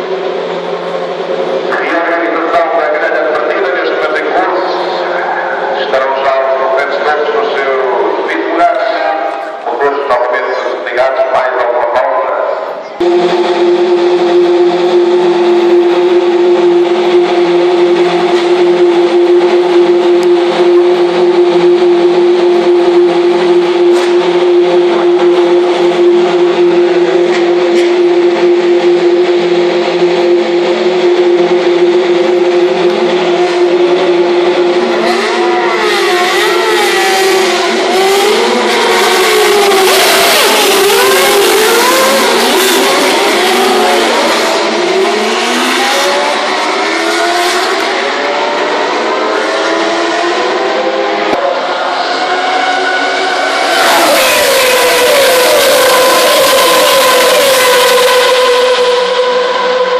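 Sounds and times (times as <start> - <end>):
race car engines idling: 0.0 - 59.9
race car engines revving: 0.0 - 59.9.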